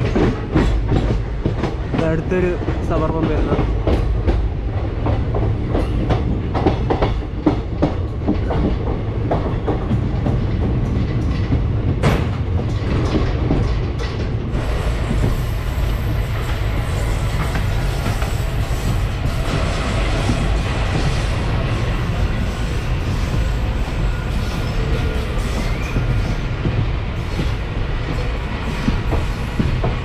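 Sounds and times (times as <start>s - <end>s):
train rolling noise: 0.0s - 30.0s
train wheels clattering: 0.0s - 30.0s.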